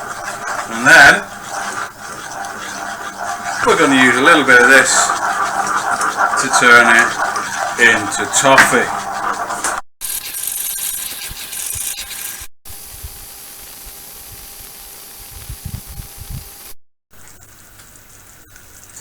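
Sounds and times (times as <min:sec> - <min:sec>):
sugar syrup boiling in a pan: 0:00.0 - 0:16.7.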